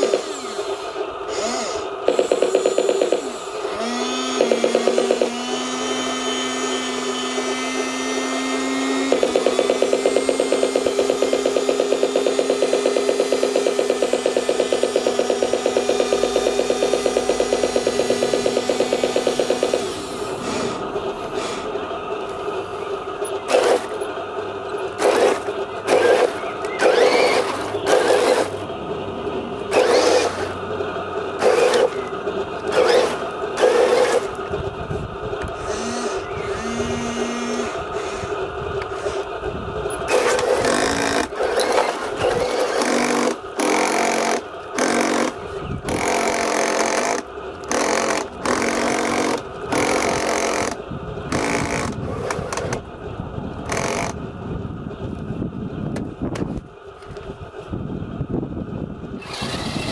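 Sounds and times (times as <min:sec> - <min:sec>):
toy tank motors whirring: 0:00.0 - 0:28.8, 0:29.6 - 0:52.9, 0:53.6 - 0:54.2, 0:59.2 - 0:59.9.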